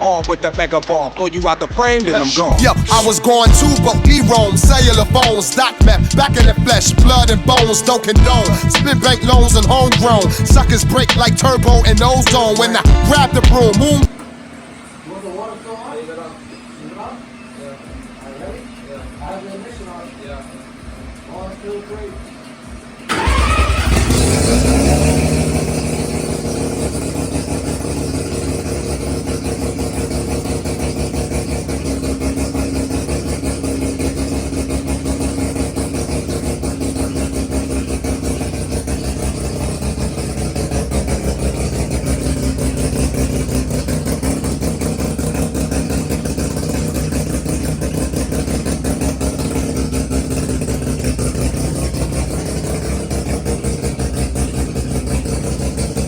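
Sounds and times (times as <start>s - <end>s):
rotary engine revving and idling: 2.4s - 56.0s.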